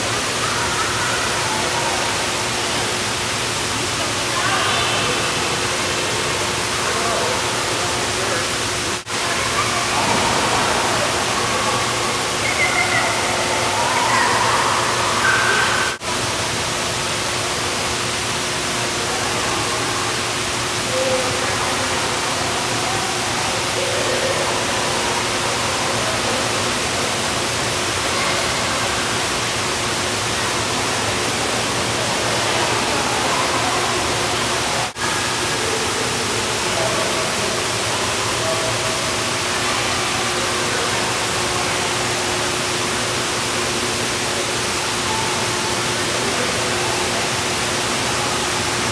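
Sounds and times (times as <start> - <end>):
fountain water rushing: 0.0 - 48.9.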